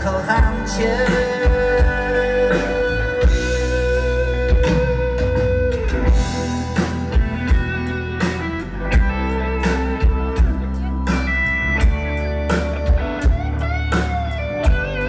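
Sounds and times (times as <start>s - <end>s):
bass guitar: 0.0s - 15.0s
drum kit: 0.0s - 15.0s
electric guitars: 0.0s - 15.0s
rock band playing: 0.0s - 15.0s.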